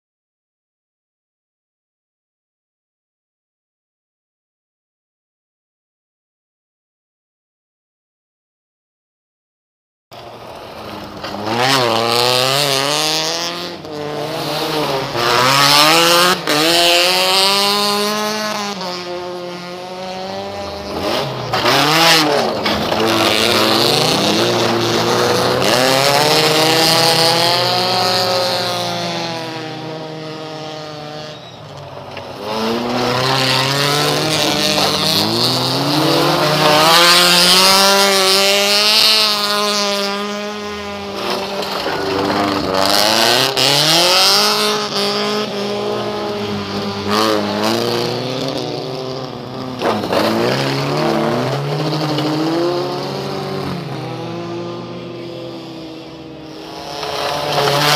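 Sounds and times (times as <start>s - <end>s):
race car engines revving: 10.2s - 57.9s.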